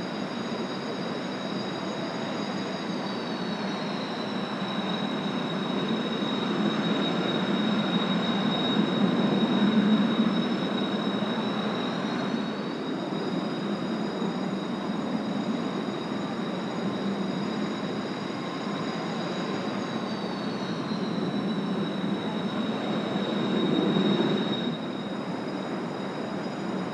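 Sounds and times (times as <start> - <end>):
jet engine turbine whine: 0.0 - 26.9
second rising engine whine: 3.6 - 25.3.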